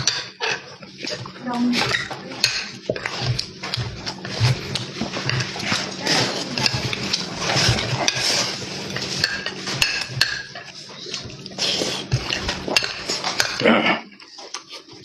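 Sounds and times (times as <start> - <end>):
chewing and slurping: 0.0 - 15.0
utensils clinking against dishes: 0.0 - 15.0.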